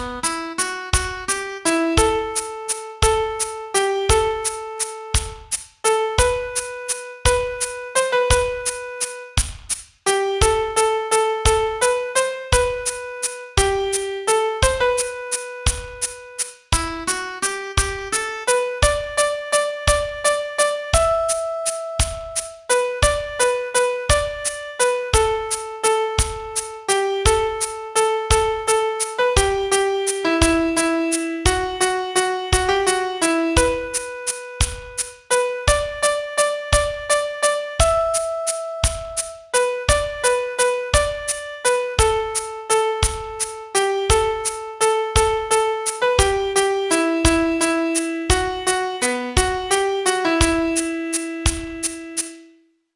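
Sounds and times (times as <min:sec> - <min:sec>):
slow piano melody: 0:00.0 - 0:09.4, 0:10.1 - 0:52.6
metronome clicking: 0:00.0 - 0:52.4.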